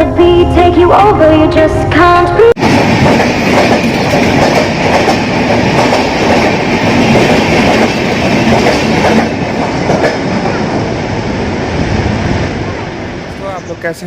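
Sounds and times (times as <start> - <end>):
train wheels rumbling on rails: 2.6 - 14.0.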